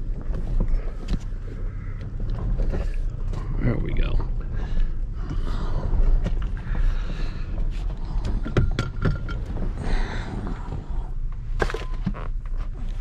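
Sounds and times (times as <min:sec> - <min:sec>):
knocks and rattles: 0:00.0 - 0:10.9
truck cabin rumble: 0:00.0 - 0:13.0.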